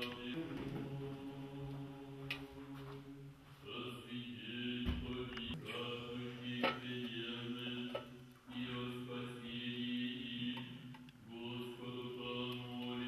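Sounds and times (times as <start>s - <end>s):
men's choir chanting a hymn: 0.0s - 13.0s.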